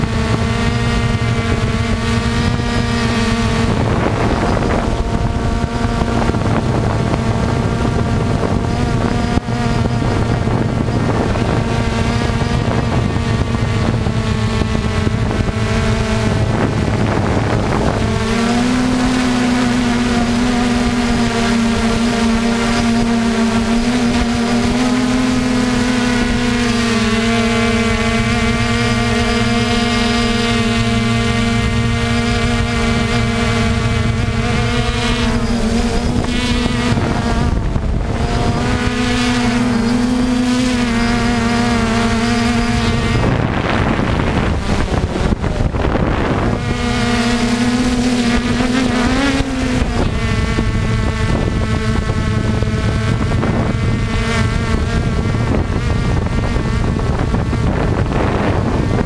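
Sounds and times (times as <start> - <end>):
drone propellers buzzing: 0.0 - 59.0
wind rumble on microphone: 0.0 - 59.0.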